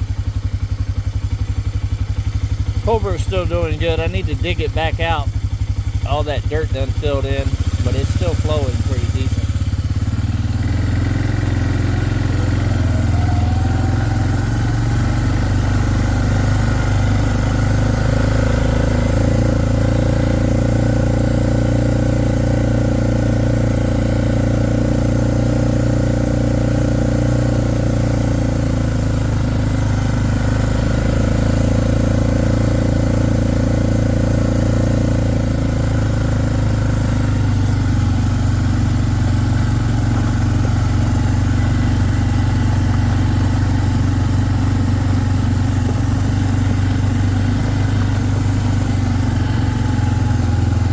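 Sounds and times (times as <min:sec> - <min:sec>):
small vehicle engine running: 0:00.0 - 0:50.9.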